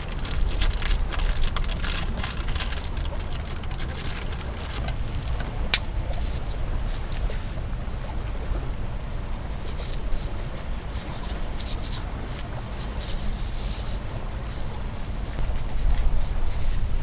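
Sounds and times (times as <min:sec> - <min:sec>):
crisp rustles: 0:00.0 - 0:17.0
wind buffeting microphone: 0:00.0 - 0:17.0.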